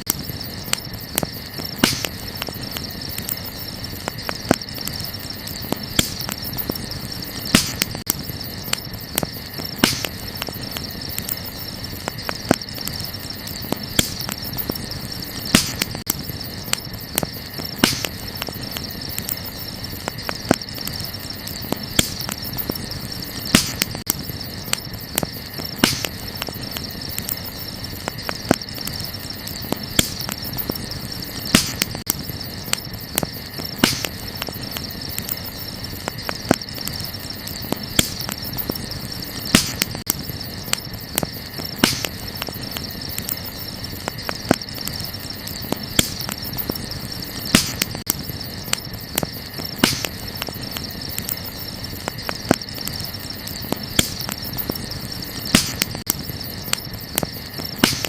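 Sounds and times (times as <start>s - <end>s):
campfire crackling: 0.0s - 58.0s
crickets chirring: 0.0s - 58.0s.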